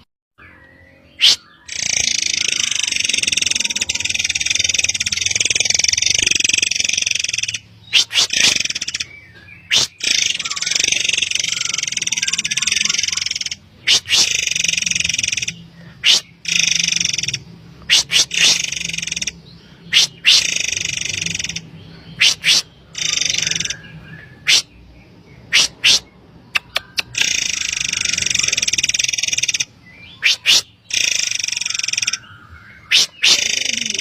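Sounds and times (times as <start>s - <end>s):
harsh hissing bird calls: 1.2s - 9.1s, 9.7s - 23.8s, 24.4s - 24.8s, 25.5s - 26.1s, 27.0s - 32.2s, 32.8s - 34.0s.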